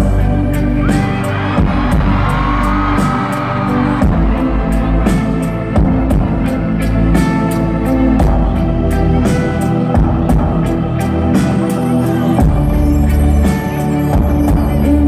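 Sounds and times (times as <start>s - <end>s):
loud concert music over pa: 0.0s - 15.0s.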